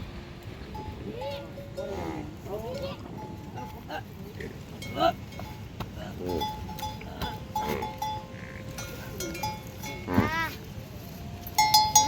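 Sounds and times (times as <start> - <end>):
livestock bells clinking: 0.6 - 12.0.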